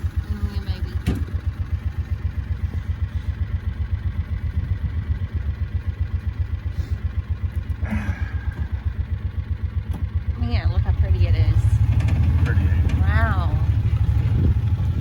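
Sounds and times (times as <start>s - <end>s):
small engine throbbing: 0.0s - 15.0s.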